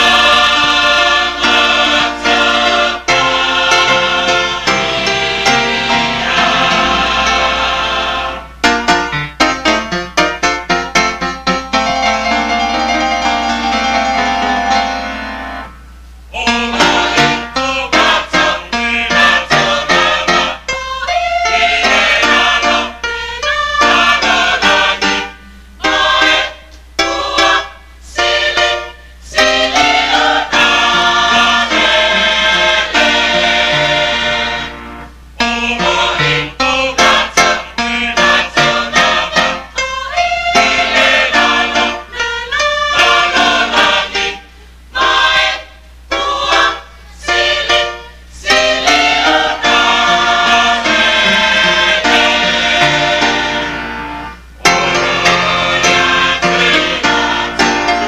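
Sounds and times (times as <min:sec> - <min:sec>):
choir singing in harmony: 0:00.0 - 0:09.2, 0:11.8 - 0:15.7, 0:16.3 - 0:58.0.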